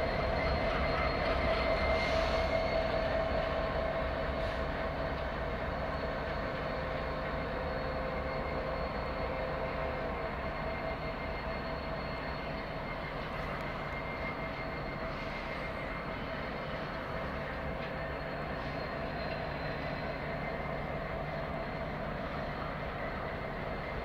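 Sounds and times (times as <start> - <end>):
machine drone with whine: 0.0 - 24.0.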